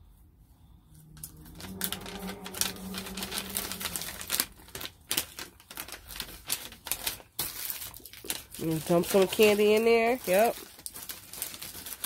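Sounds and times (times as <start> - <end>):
plastic bag crinkling: 1.2 - 12.0.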